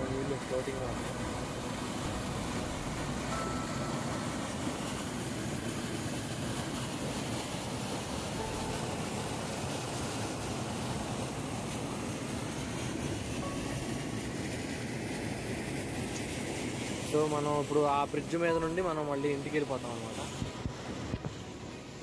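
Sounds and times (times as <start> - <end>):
water gushing into channel: 0.0 - 22.0.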